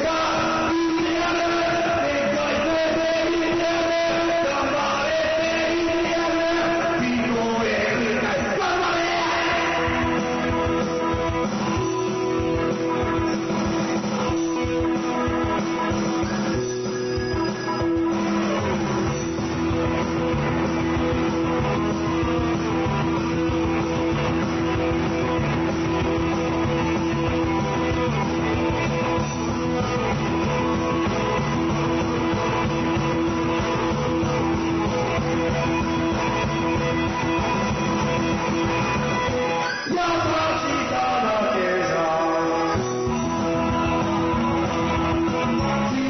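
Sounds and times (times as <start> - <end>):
rock music with strummed guitar: 0.0 - 46.0.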